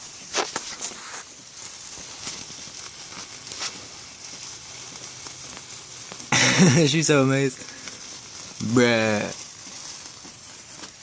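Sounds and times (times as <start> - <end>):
faint crackles: 0.0 - 11.0
sparklers fizzing: 0.0 - 11.0.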